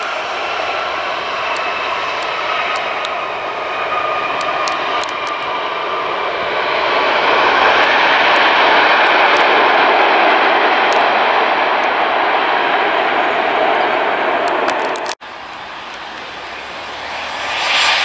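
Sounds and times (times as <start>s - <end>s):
faint engine whine: 0.0s - 18.0s
jet engines roaring: 0.0s - 18.0s.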